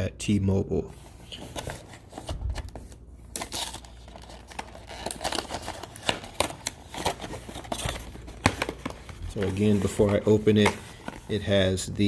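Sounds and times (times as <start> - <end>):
packaging crinkling and rustling: 1.2 - 11.8.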